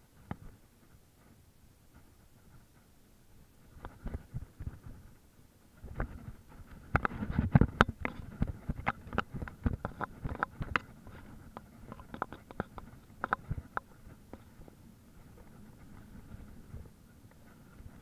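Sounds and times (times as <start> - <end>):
wind rumble on camera: 0.0 - 18.0.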